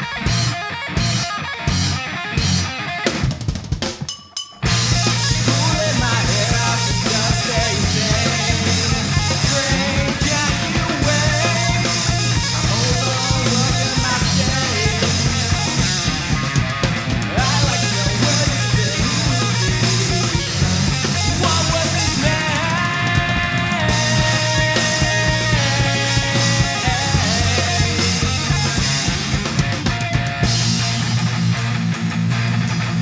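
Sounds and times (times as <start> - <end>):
hard rock band playing: 0.0 - 33.0.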